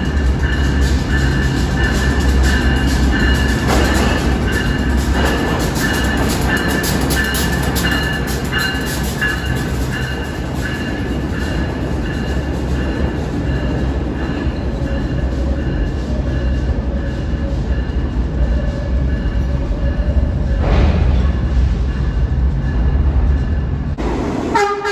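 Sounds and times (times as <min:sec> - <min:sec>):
steel wheels clacking over rail joints: 0:00.0 - 0:23.4
train rumble: 0:00.0 - 0:24.9.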